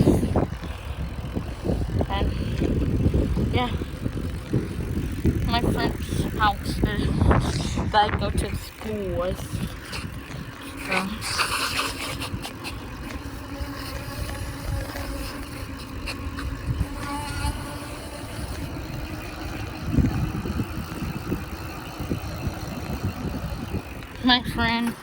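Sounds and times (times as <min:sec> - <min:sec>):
bicycle clicks: 0:00.0 - 0:25.0
bicycle tyre and frame rattle: 0:00.0 - 0:25.0
wind rumbling on microphone: 0:00.0 - 0:25.0.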